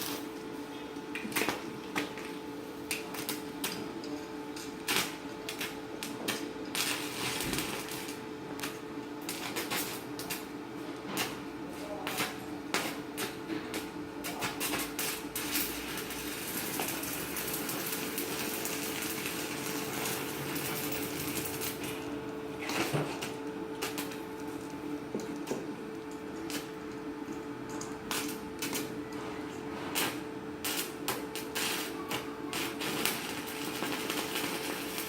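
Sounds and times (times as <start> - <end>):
welding arc crackling hiss: 0.0 - 0.6, 4.6 - 25.6, 26.4 - 29.0, 29.9 - 35.0.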